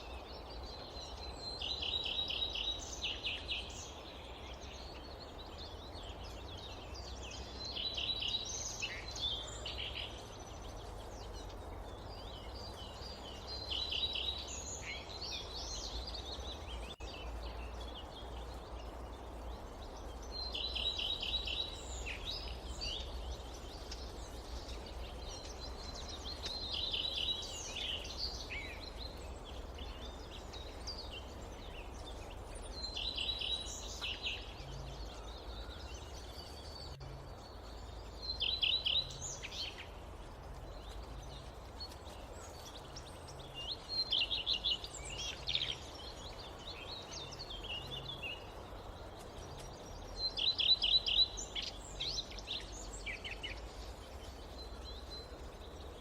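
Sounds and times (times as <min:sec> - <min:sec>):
forest birds singing: 0:00.0 - 0:56.0.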